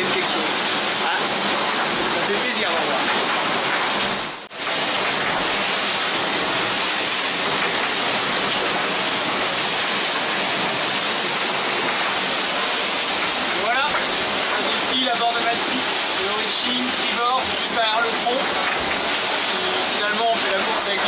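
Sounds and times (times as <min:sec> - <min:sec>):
rushing water and spray: 0:00.0 - 0:21.0.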